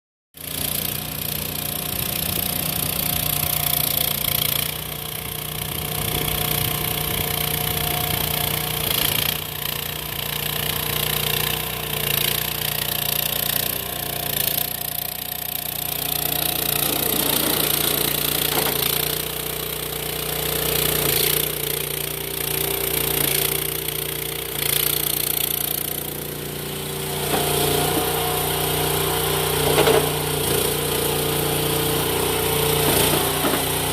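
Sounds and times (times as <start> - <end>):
track loader engine running: 0.4 - 33.9.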